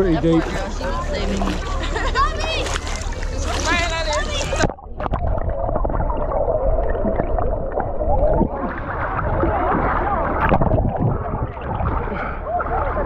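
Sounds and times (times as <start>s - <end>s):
bubbles churning: 0.0s - 13.0s
muffled water gurgling and sloshing: 0.0s - 13.0s.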